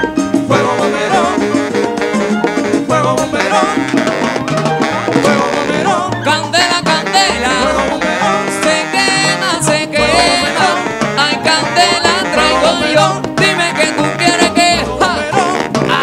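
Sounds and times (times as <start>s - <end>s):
band playing dance music: 0.0s - 16.0s.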